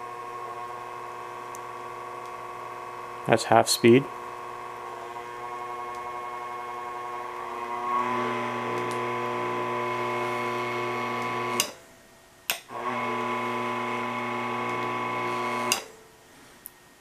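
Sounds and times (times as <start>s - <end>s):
motor whine: 0.0s - 11.8s, 12.7s - 16.0s.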